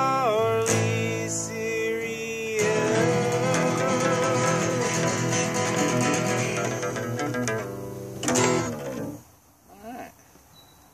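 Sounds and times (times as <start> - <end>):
acoustic bass guitar: 0.0 - 9.2
acoustic guitar: 0.0 - 9.3.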